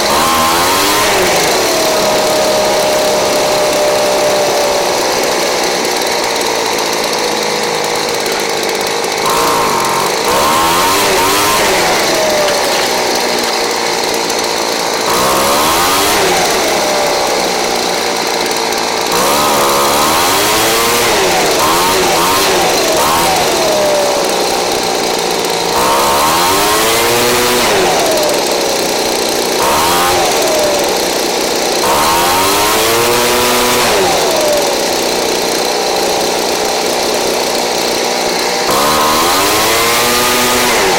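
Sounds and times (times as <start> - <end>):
leaf blower engine revving: 0.0 - 40.9.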